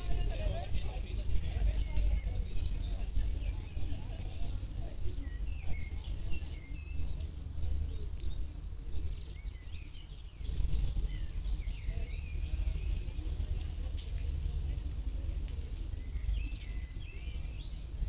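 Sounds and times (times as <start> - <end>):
low outdoor rumble: 0.0 - 18.0
songbirds chirping and singing: 0.0 - 18.0.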